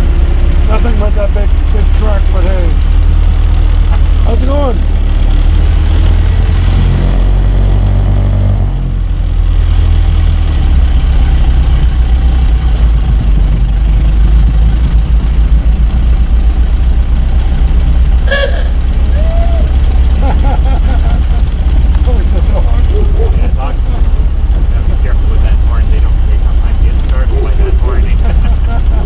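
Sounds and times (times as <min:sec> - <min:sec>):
car engine running: 0:00.0 - 0:29.0
wind rumble on microphone: 0:05.3 - 0:29.0.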